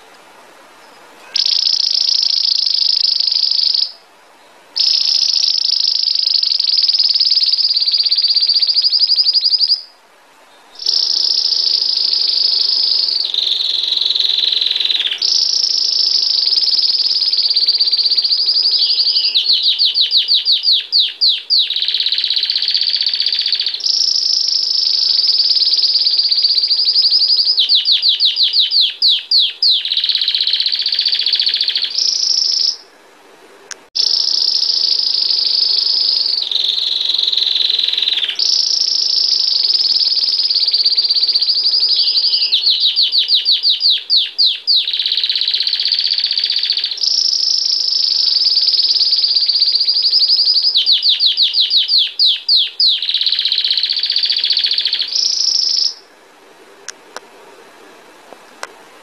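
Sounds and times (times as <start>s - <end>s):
canary singing: 0.8s - 32.9s, 34.0s - 56.1s.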